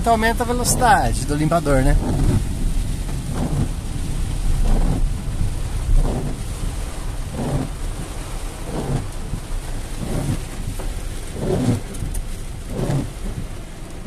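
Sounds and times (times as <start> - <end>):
heavy rain on car roof: 0.0 - 14.0
windshield wipers sweeping: 0.0 - 14.0.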